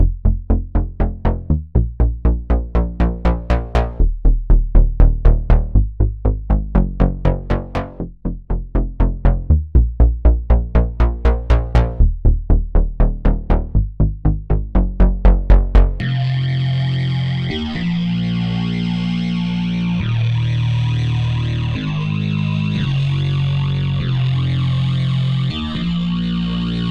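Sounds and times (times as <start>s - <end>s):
punchy synth bass line: 0.0s - 26.9s.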